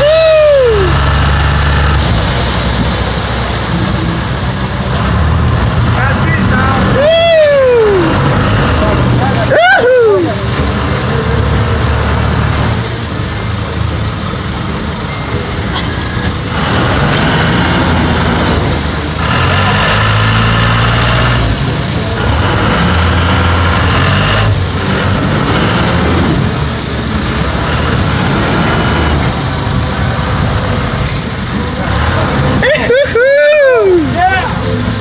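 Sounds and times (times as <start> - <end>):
boat engines running: 0.0 - 35.0
water noise: 0.0 - 35.0
wind: 0.0 - 35.0.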